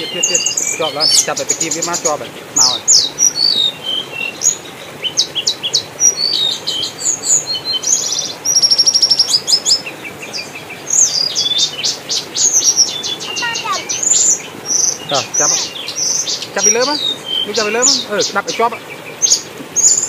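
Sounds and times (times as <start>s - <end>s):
birds chirping and trilling: 0.0s - 20.0s.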